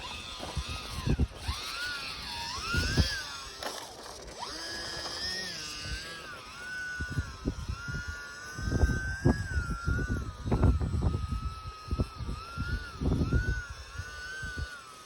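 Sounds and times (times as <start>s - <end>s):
wind buffeting microphone: 0.0s - 3.5s, 5.2s - 14.8s
model plane motor whining: 0.0s - 15.0s.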